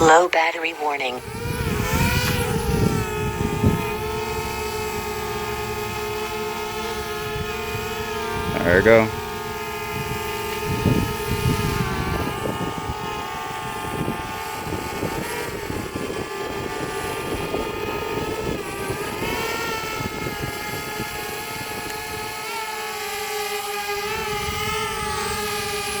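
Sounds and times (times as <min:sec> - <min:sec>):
wind buffeting microphone: 0:01.2 - 0:22.6, 0:23.9 - 0:26.0
drone propellers buzzing: 0:01.2 - 0:26.0.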